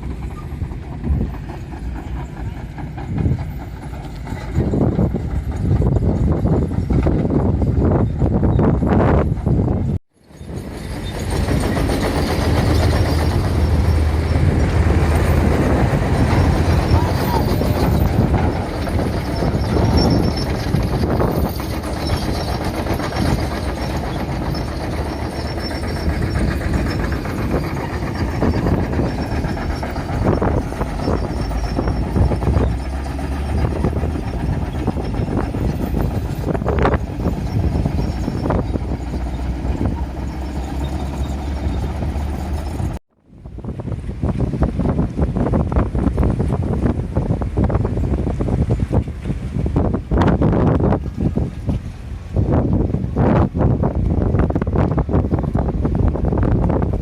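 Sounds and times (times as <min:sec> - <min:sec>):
passing vehicles rumbling: 0:00.0 - 0:57.0.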